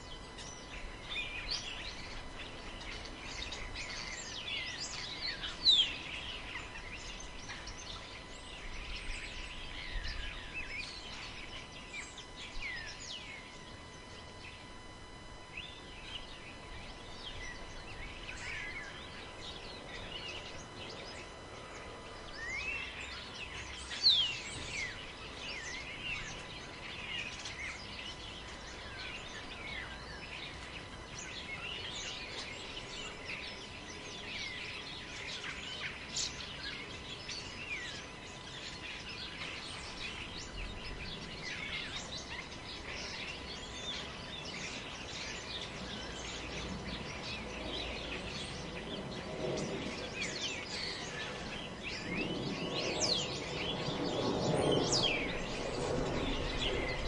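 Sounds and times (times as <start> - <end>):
wind hissing in forest: 0.0 - 14.7, 15.5 - 57.0
small birds chirping: 0.0 - 57.0.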